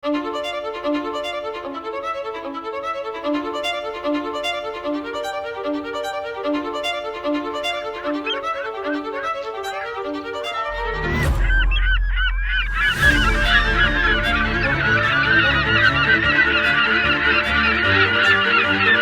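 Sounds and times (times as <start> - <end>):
violin melody: 0.0 - 11.4, 12.8 - 19.0.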